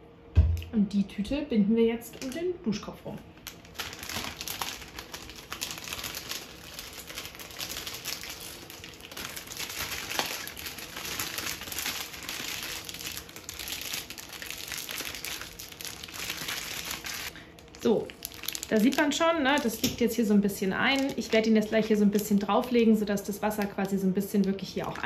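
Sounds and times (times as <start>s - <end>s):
plastic bag crinkling: 3.3s - 25.0s.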